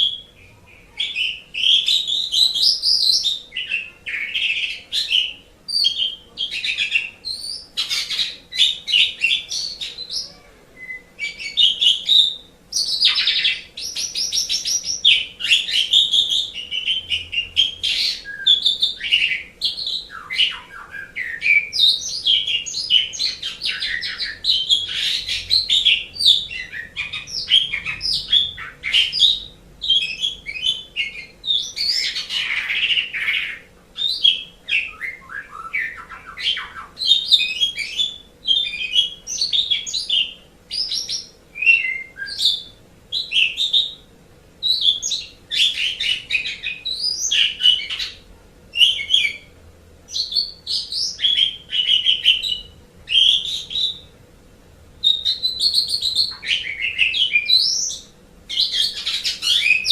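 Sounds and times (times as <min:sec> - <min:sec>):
starling singing: 0:00.0 - 0:54.2, 0:55.0 - 0:59.9.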